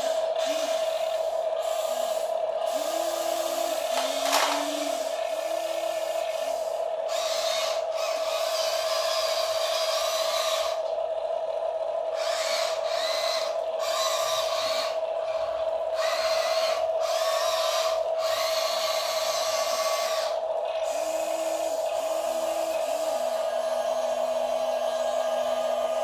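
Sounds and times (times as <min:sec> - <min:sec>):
electric motor hum: 0:00.0 - 0:26.0
high motor whine: 0:00.0 - 0:26.0.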